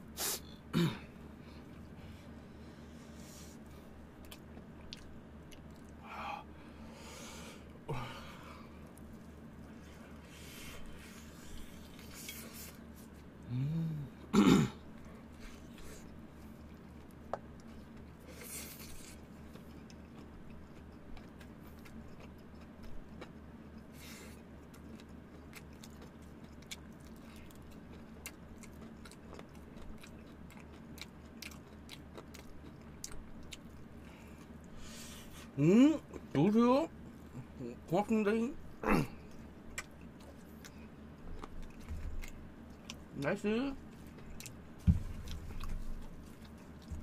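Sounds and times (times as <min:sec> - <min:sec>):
chewing crispy fried chicken: 0:03.0 - 0:47.0.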